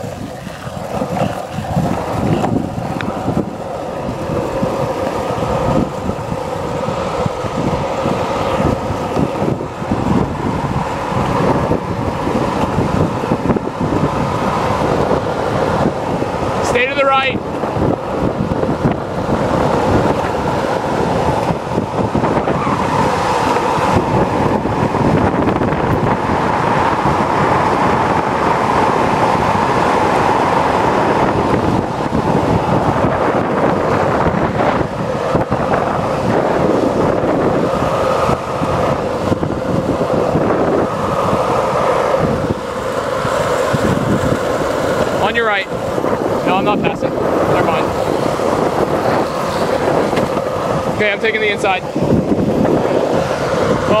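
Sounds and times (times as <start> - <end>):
longboard wheels rolling on asphalt: 0.0 - 54.0
wind rushing over microphone: 0.0 - 54.0.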